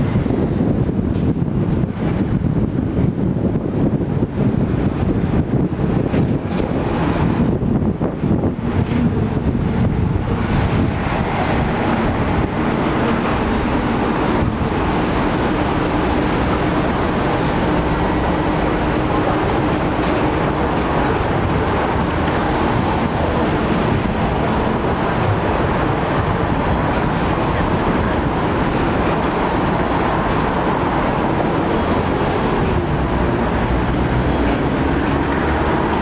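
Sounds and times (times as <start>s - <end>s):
tram wheels rumbling on track: 0.0s - 36.0s.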